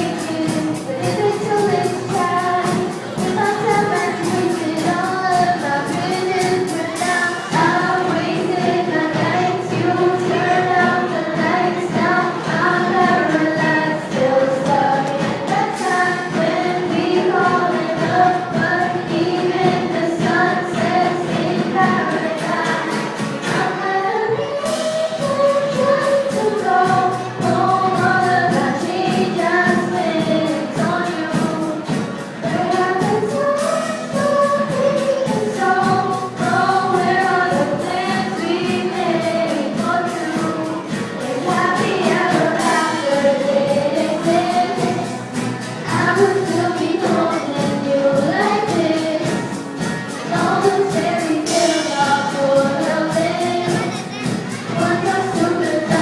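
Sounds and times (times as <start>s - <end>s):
music with steady beat: 0.0s - 23.8s, 24.6s - 56.0s
voices singing together: 0.0s - 56.0s.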